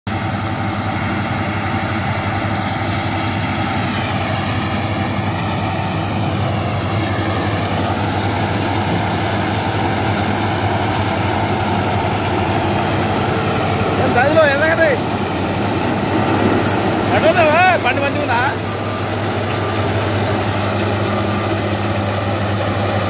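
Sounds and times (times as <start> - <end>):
harvester engine droning: 0.1 - 23.0.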